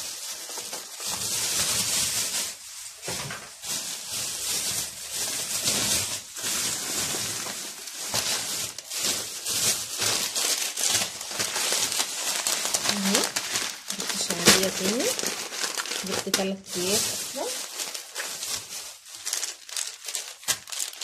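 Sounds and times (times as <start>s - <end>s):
plastic bags rustling: 0.0s - 21.0s.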